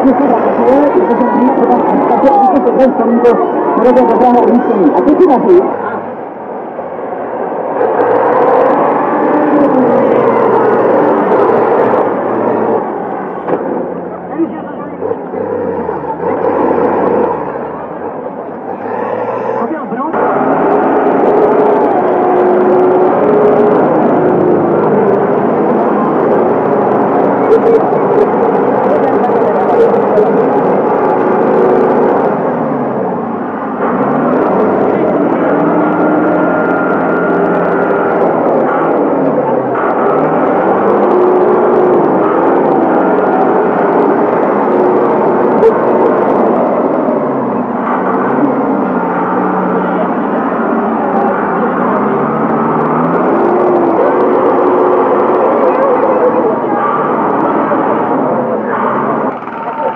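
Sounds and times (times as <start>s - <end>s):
tractor diesel engine working hard: 0.0s - 59.9s.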